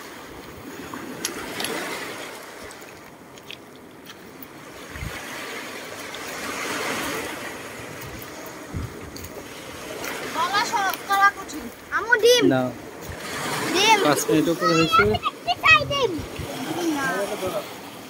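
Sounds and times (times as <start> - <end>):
waves washing onto pebbles: 0.0 - 18.0.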